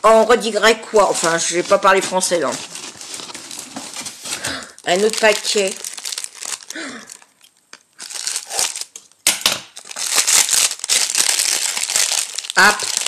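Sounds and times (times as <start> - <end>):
gift wrapping crinkling: 0.2 - 9.1, 9.8 - 13.0.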